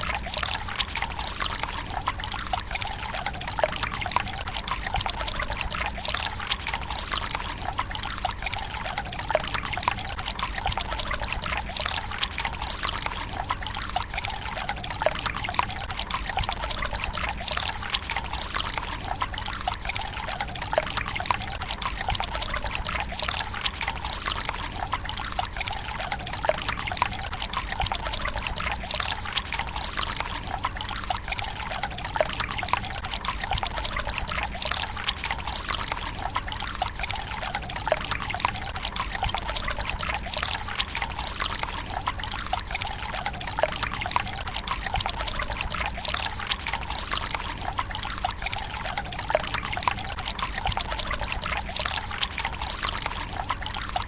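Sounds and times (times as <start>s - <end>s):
small splashes and drips: 0.0s - 54.0s
water trickling into stone basin: 0.0s - 54.0s.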